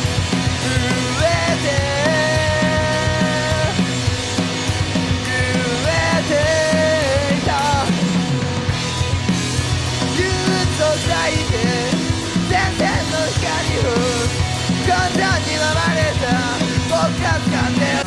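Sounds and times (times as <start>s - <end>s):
bass guitar: 0.0s - 18.0s
drums playing: 0.0s - 18.0s
electric guitars: 0.0s - 18.0s.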